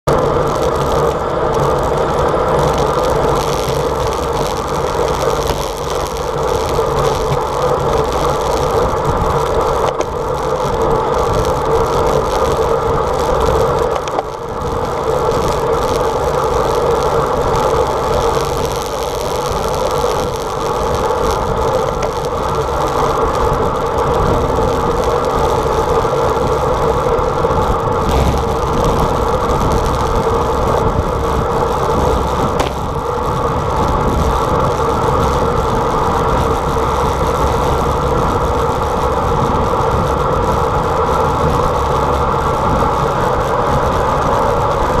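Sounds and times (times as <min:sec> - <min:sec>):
bike tyres rolling on asphalt: 0:00.0 - 0:45.0
wind on microphone: 0:00.1 - 0:45.0.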